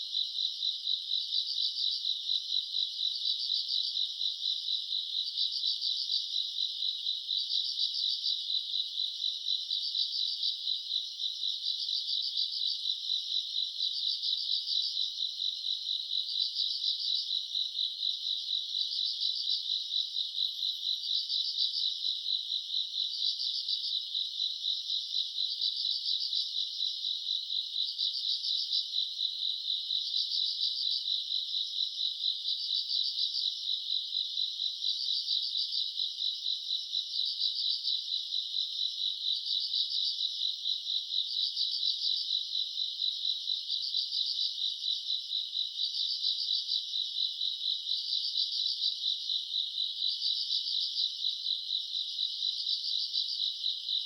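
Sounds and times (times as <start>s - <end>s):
crickets trilling and chirping: 0.0s - 54.0s.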